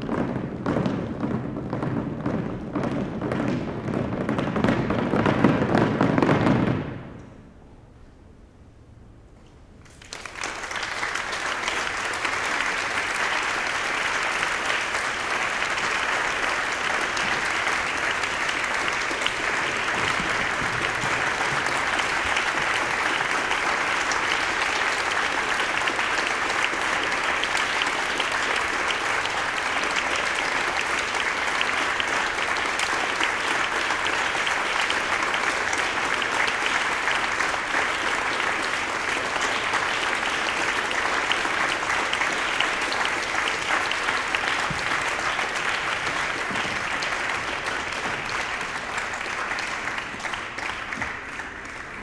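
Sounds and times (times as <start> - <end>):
audience applauding: 0.0 - 0.9, 9.8 - 52.0.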